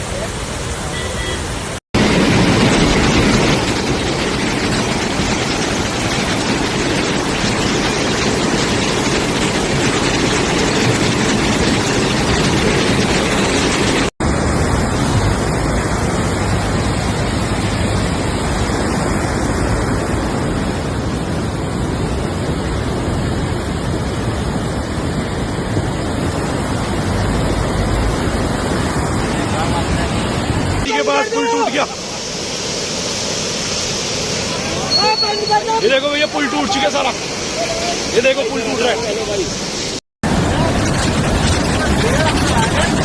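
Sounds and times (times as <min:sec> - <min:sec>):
floodwater rushing roar: 0:00.0 - 0:43.0.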